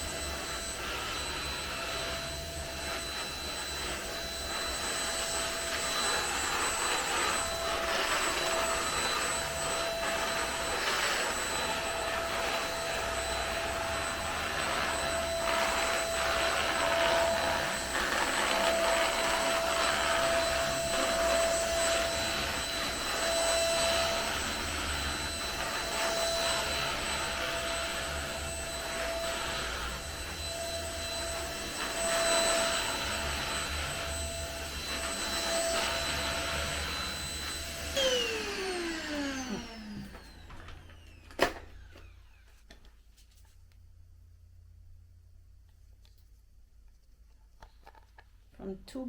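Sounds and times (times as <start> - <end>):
vacuum cleaner whining: 0.0 - 45.0.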